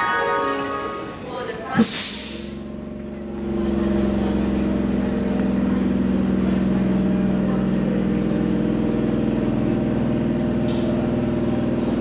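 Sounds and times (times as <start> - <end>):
electric train droning hum: 0.0 - 12.0.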